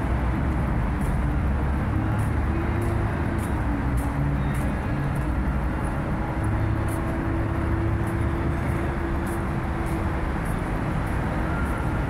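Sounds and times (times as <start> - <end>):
engine hum: 0.0 - 12.0
passing cars rumbling: 0.0 - 12.0.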